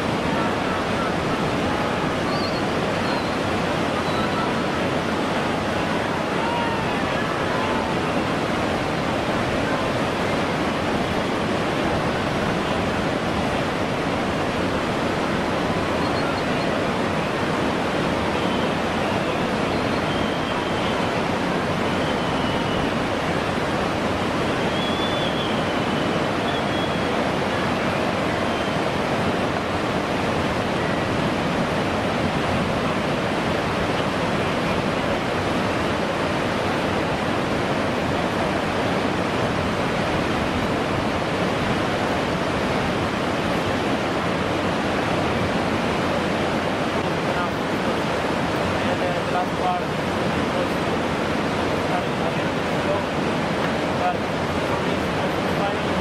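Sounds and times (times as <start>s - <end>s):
whitewater rapids rushing: 0.0s - 56.0s.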